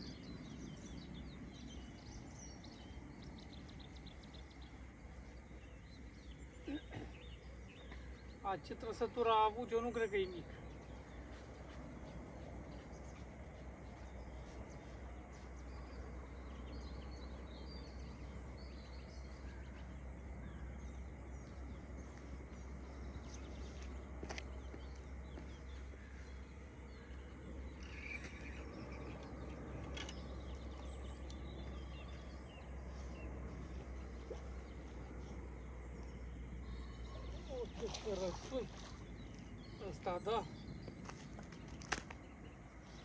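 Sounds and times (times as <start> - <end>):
birds chirping: 0.0 - 43.0
low rumble and hiss: 0.0 - 43.0.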